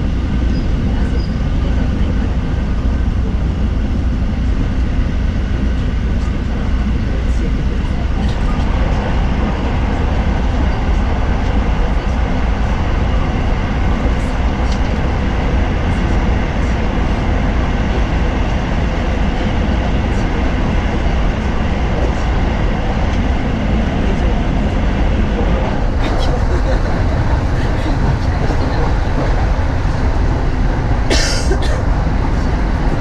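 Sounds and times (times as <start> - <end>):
train rumbling at speed: 0.0 - 33.0.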